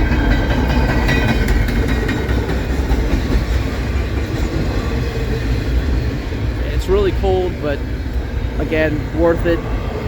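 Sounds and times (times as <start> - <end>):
rail clicks: 0.0 - 10.0
train wheels rumbling on rails: 0.0 - 10.0.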